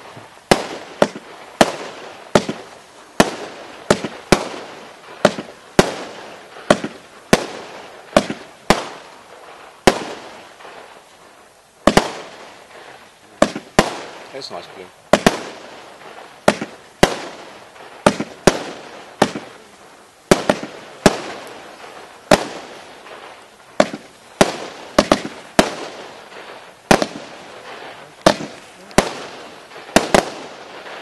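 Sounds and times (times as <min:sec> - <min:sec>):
firework bangs: 0:00.0 - 0:31.0.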